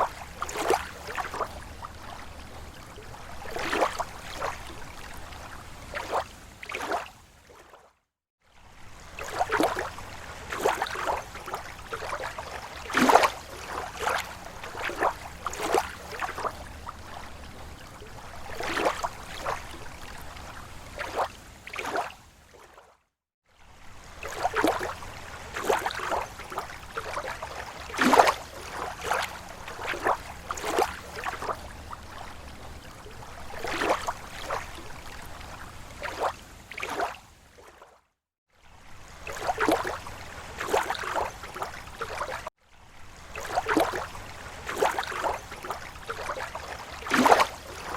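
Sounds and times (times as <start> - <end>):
small waves lapping on shore: 0.0 - 47.9.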